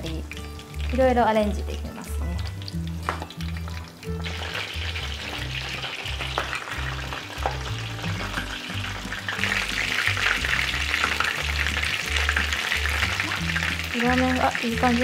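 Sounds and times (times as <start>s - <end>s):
dumplings sizzling in oil: 0.0s - 15.0s
oil popping: 0.0s - 15.0s.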